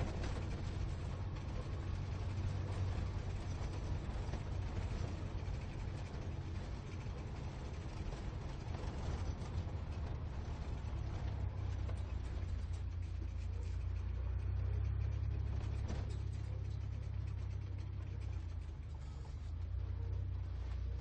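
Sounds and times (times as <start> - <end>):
sports car engine rumble: 0.0 - 21.0.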